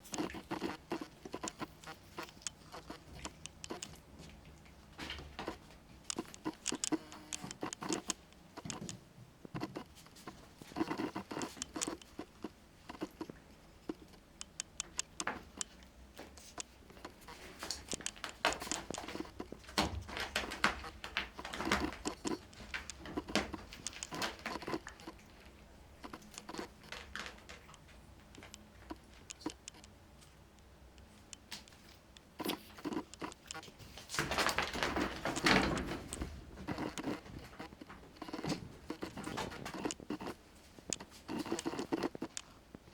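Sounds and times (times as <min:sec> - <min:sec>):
cats pawing and scrabbling: 0:00.0 - 0:42.9.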